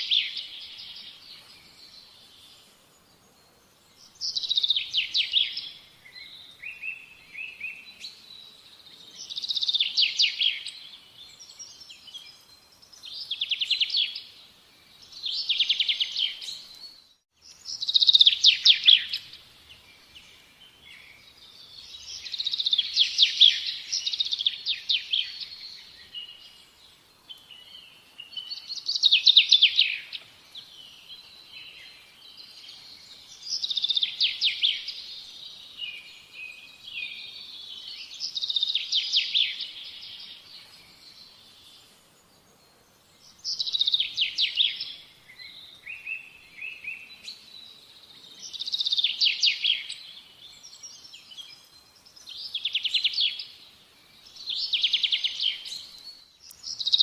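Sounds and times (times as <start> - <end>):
bird singing trilled notes: 0.0 - 57.0.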